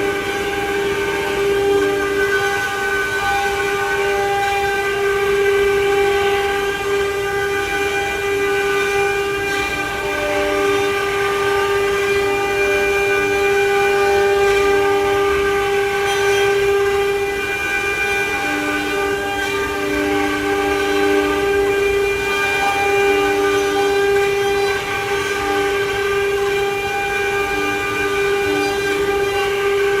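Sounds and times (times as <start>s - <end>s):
carving machine spindle whine: 0.0s - 30.0s.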